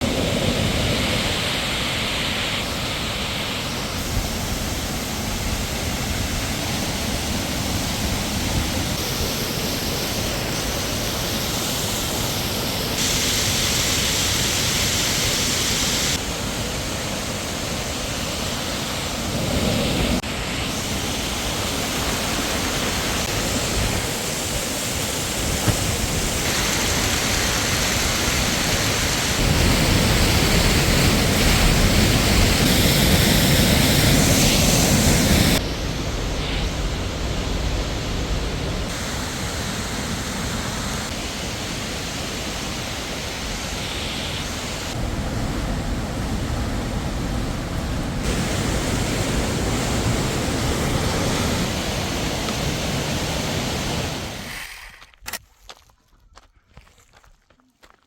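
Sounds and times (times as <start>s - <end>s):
waterfall roaring: 0.0s - 54.8s.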